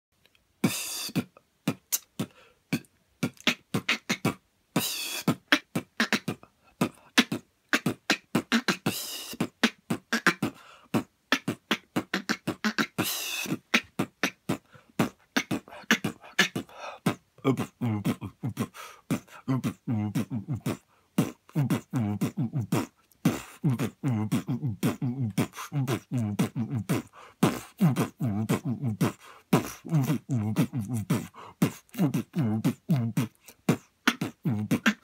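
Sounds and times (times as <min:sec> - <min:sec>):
beatboxing: 0:00.6 - 0:35.0
pitched synth-like vocal sound: 0:00.6 - 0:35.0.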